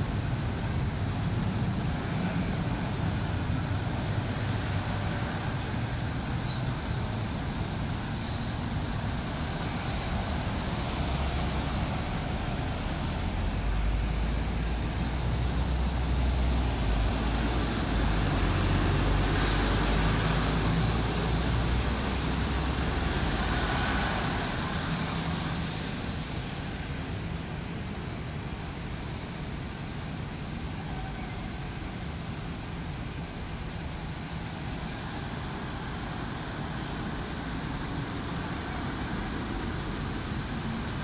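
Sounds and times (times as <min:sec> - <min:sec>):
bus engine rumble: 0:00.0 - 0:41.0
traffic noise: 0:00.0 - 0:41.0.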